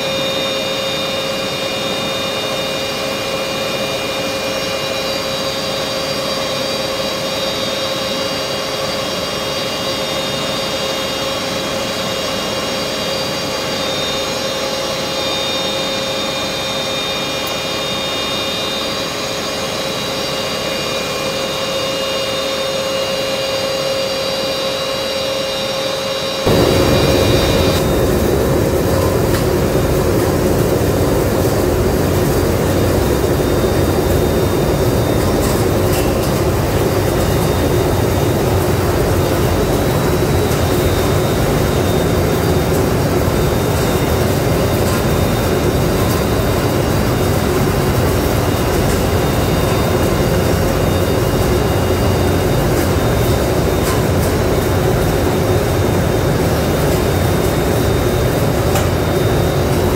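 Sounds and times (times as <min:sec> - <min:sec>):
machinery running with hum: 0:00.0 - 0:59.9.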